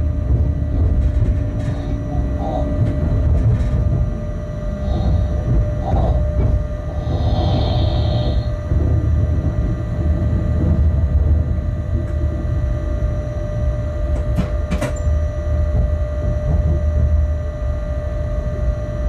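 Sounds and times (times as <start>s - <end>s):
humming whine: 0.0s - 19.0s
locomotive low rumble: 0.0s - 19.0s.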